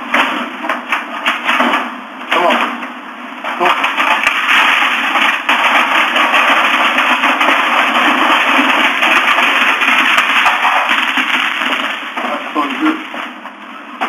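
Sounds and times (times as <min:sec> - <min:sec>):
loud steady rushing noise: 0:00.0 - 0:13.7.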